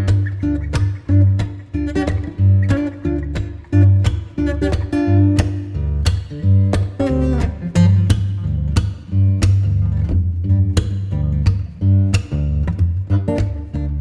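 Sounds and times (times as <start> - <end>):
bass line: 0.0 - 14.0
strummed guitar: 0.0 - 14.0.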